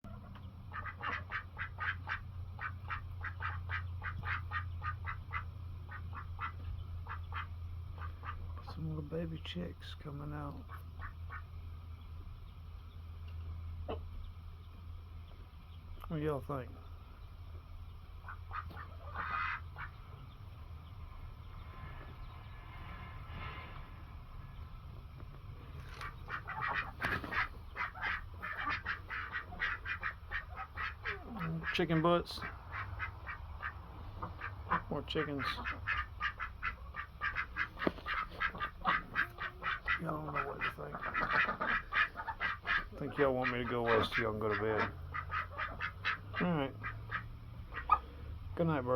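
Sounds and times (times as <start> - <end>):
steady low hum: 0.0 - 48.9
ducks quacking: 0.1 - 12.0, 13.7 - 14.8, 16.1 - 48.9.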